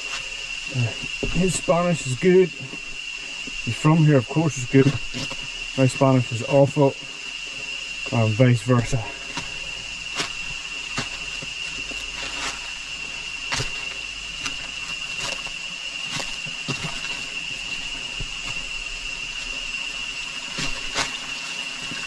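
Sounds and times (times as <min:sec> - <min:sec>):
footsteps on a trail: 0:00.0 - 0:06.1, 0:07.0 - 0:22.0
high-pitched insect drone: 0:00.0 - 0:22.0.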